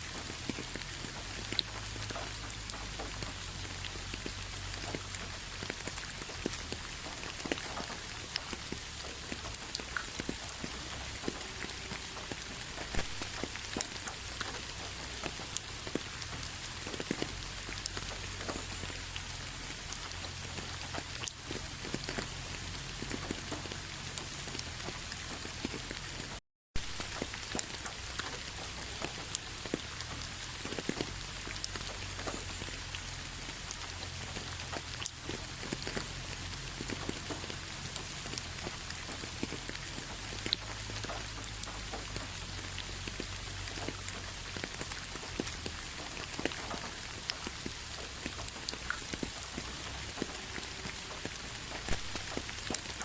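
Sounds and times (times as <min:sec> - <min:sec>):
rain hiss: 0:00.0 - 0:53.0
raindrops ticking on hard surface: 0:00.0 - 0:53.0.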